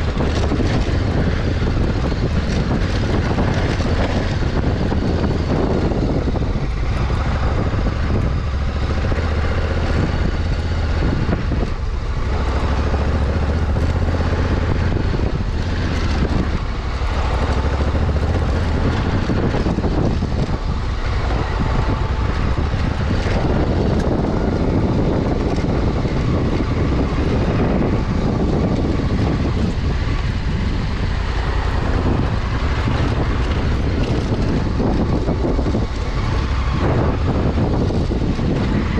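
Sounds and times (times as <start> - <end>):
motorcycle engine hum: 0.0 - 38.9
wind rushing on microphone: 0.0 - 38.9.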